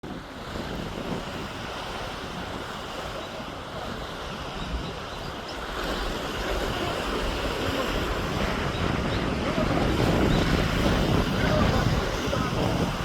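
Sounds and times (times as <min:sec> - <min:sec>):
rushing water: 0:00.0 - 0:13.0
wind rumbling on microphone: 0:00.0 - 0:13.0.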